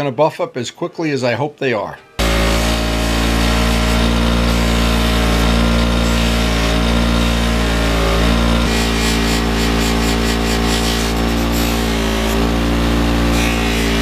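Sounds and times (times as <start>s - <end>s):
bench buffer motor running: 2.2s - 14.0s
metal plate rubbing on buffing wheel: 2.2s - 14.0s.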